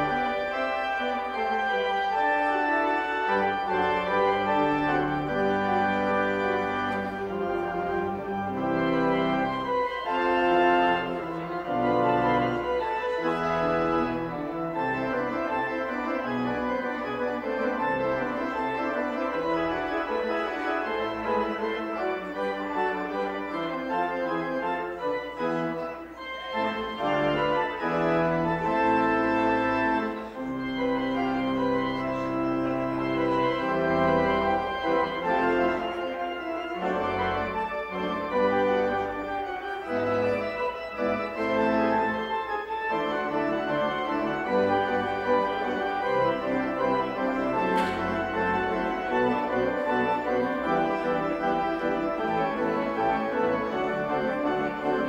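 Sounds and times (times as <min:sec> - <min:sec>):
church organ chords: 0:00.0 - 0:55.0.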